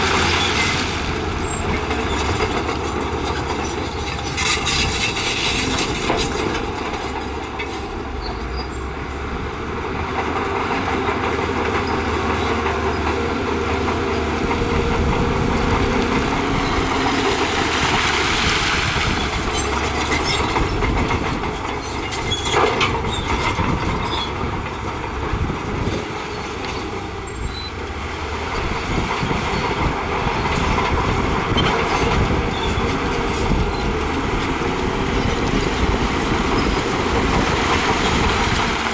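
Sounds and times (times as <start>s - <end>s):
bulldozer diesel engine under load: 0.0s - 38.9s
steel tracks clanking: 0.0s - 38.9s.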